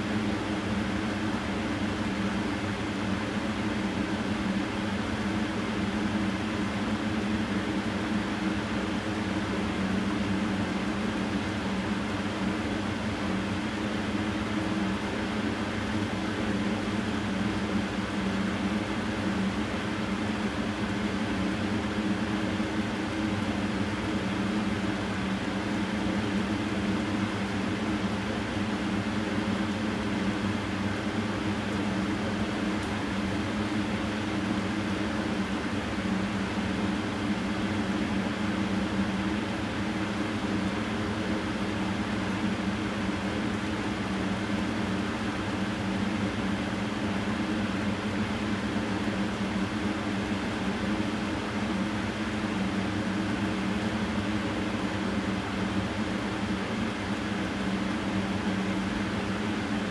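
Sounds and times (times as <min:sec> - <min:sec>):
mechanical hum with hiss: 0:00.0 - 0:59.9.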